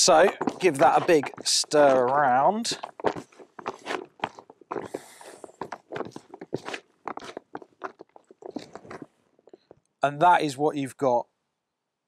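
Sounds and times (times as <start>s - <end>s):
hands stirring bait in a bucket: 0.0s - 9.9s.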